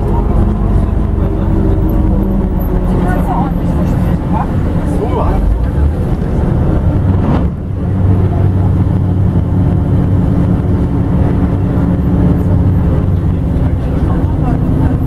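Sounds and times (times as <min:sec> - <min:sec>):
diesel engine droning: 0:00.0 - 0:15.0
road rumble: 0:00.0 - 0:15.0.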